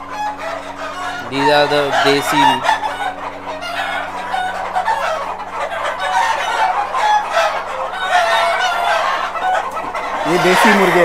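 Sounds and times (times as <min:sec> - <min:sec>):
chickens clucking and crowing: 0:00.0 - 0:11.0.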